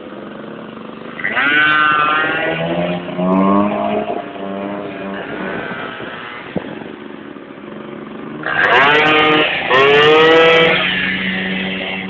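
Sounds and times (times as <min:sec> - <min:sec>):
moped engine accelerating: 0:00.0 - 0:12.0
second engine running: 0:00.0 - 0:12.0.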